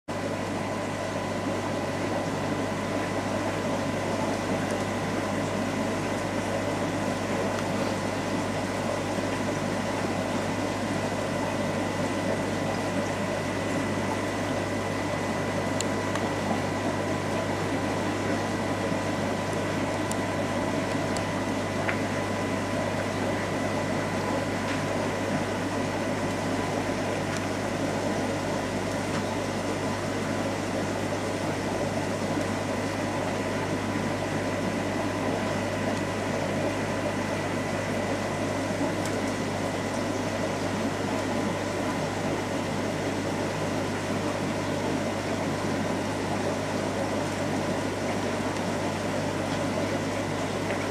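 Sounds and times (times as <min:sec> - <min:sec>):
mains hum: 0:00.1 - 0:50.9
thin steady whine: 0:00.1 - 0:50.9.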